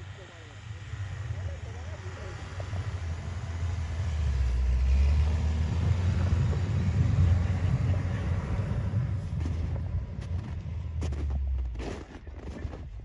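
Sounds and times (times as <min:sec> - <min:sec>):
engine running under load: 0:00.0 - 0:12.6.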